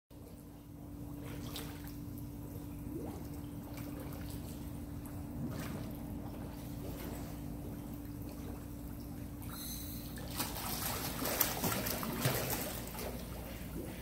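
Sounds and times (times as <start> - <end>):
pool water lapping: 0.1 - 14.0
steady low hum: 0.1 - 14.0.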